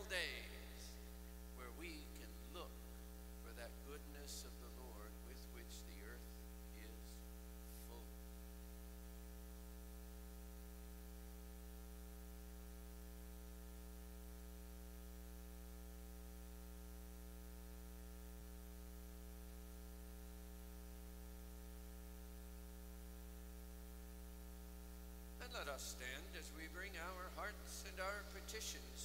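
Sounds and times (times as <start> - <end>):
electrical mains hum: 0.0 - 29.0
faint hiss: 0.0 - 29.0.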